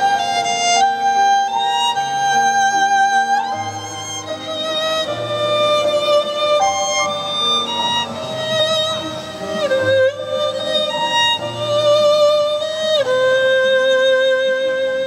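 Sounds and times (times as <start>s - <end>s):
violin melody with vibrato: 0.0s - 15.0s.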